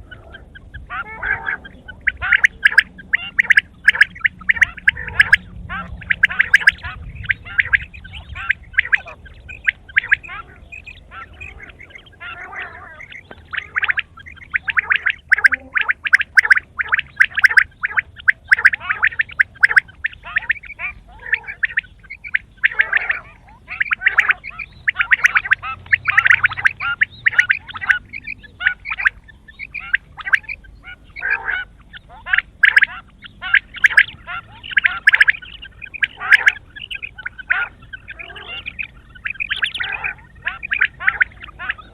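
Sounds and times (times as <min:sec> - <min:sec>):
quail calling: 0:00.0 - 0:41.9.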